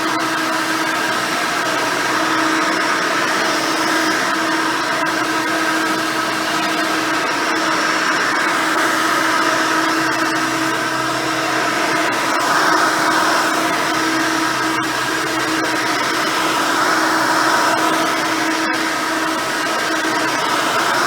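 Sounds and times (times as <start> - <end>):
upright vacuum cleaner running: 0.0 - 21.0.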